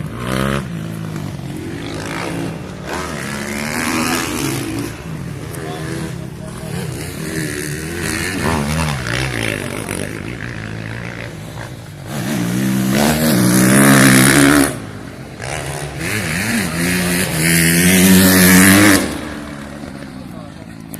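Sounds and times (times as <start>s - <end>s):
motocross bike engine revving: 0.0s - 20.9s.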